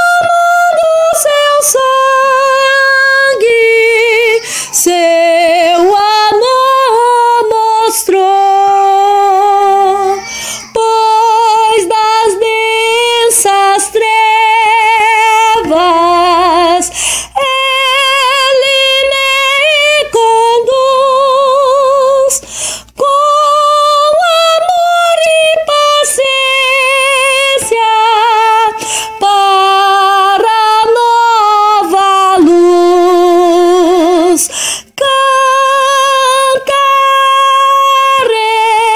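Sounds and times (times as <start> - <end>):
soprano singing a hymn: 0.0 - 38.9.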